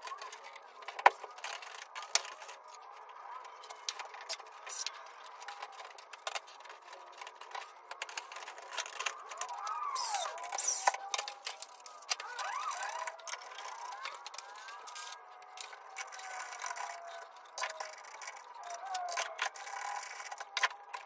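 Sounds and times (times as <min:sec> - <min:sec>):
metal and plastic clicks and knocks: 0:00.0 - 0:21.0.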